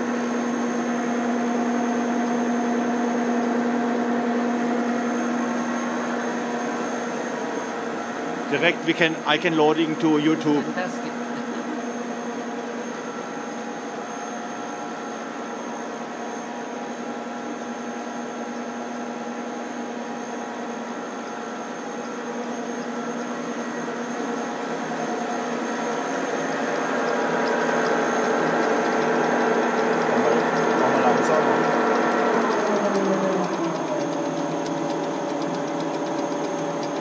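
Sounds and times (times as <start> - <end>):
machine humming and whining: 0.0 - 37.0.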